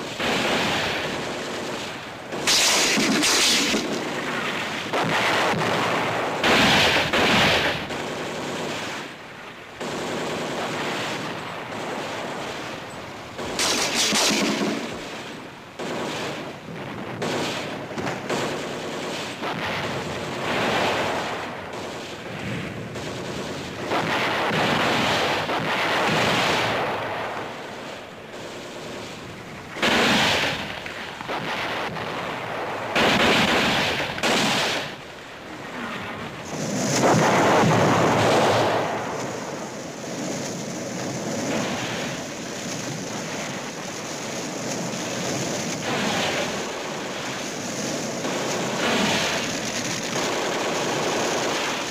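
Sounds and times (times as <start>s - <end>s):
explosions: 0.0s - 8.1s, 10.6s - 51.9s
gunfire: 0.0s - 9.1s, 9.8s - 35.1s, 36.4s - 51.9s.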